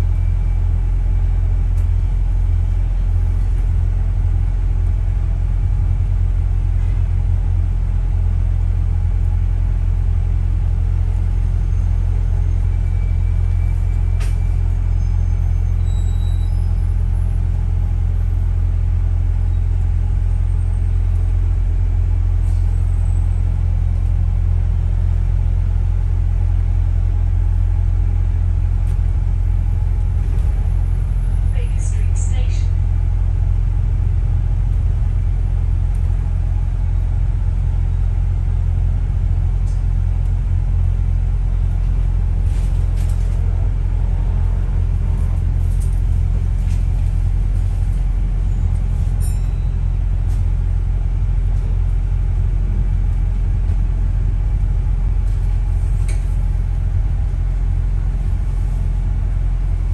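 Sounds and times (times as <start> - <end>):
bus rumbling in motion: 0.0 - 59.9.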